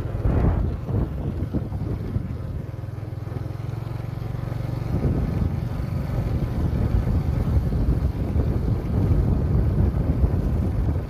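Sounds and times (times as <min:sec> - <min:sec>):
wind on microphone: 0:00.0 - 0:02.8, 0:04.8 - 0:11.0
motorbike engine: 0:00.0 - 0:11.0.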